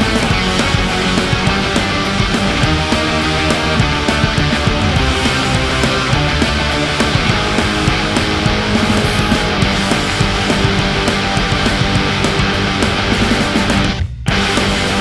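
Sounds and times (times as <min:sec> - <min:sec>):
distorted heavy rock music: 0:00.0 - 0:15.0.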